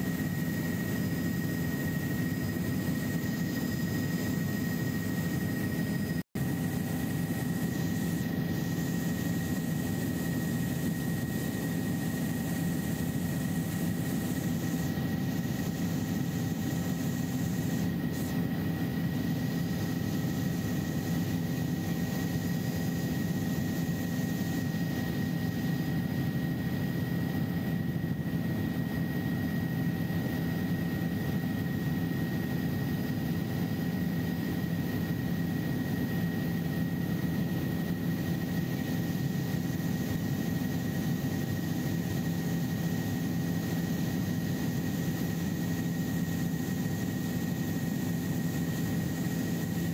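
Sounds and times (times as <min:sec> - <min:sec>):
helicopter engine and rotor drone: 0:00.0 - 0:49.9
steady high whine: 0:00.0 - 0:49.9.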